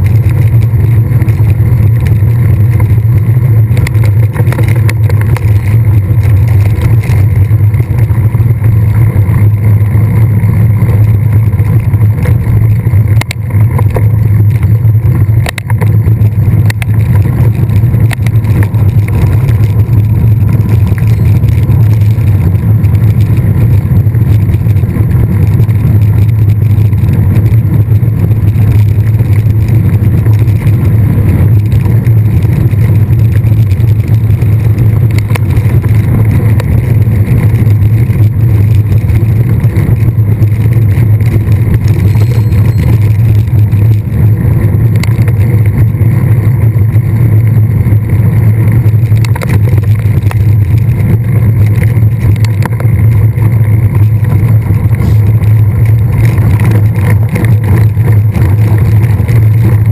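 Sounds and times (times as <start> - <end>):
bike knocks and rattles: 0.0 - 59.9
wind buffeting microphone: 0.0 - 59.9.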